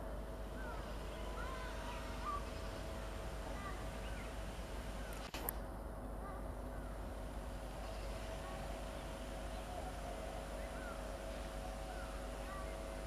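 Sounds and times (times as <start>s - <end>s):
electric train humming: 0.0s - 5.1s, 6.8s - 13.0s
birds chirping: 0.4s - 5.3s, 6.8s - 13.0s.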